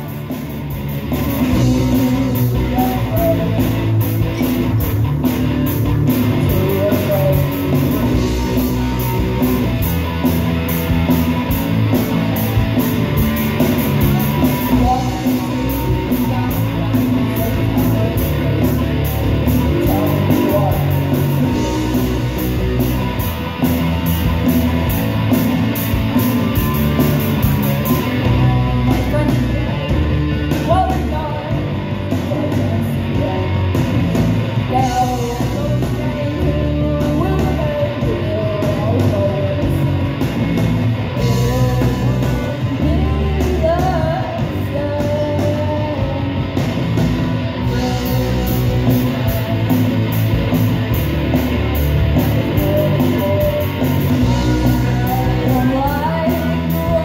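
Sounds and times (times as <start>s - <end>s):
bass guitar: 0.0s - 57.0s
drum kit with cymbals: 0.0s - 57.0s
electric guitar: 0.0s - 57.0s.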